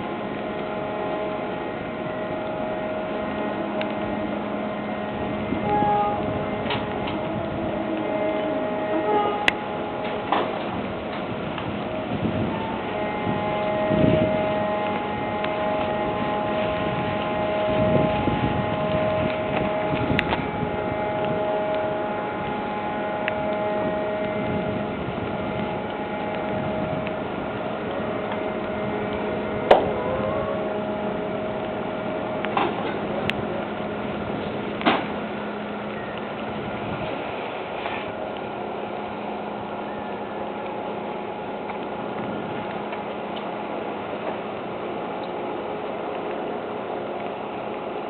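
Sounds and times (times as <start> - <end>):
machinery humming and whining: 0.0 - 48.0.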